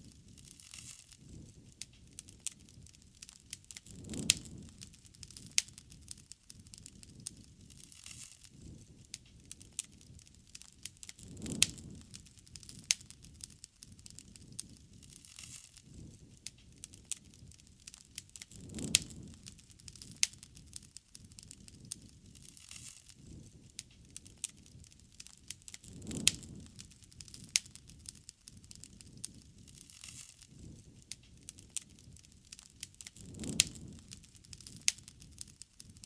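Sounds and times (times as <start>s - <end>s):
sharp fire pops: 0.0s - 36.0s
wood fire crackling: 0.0s - 36.0s.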